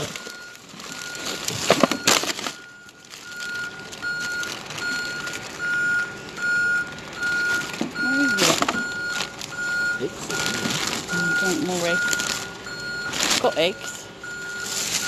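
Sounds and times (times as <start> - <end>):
plastic bags rustling: 0.0 - 15.0
electronic beeper high tone: 1.8 - 15.0.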